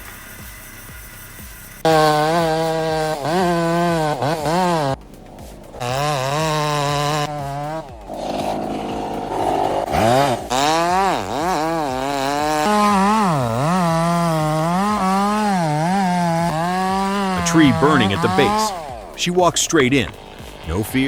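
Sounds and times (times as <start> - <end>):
chainsaw engine revving: 1.8 - 21.0.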